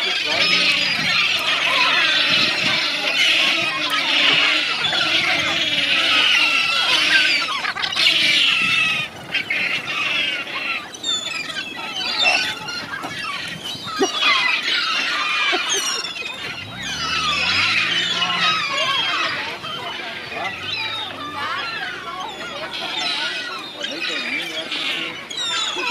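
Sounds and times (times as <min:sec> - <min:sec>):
gulls calling: 0:00.0 - 0:25.9.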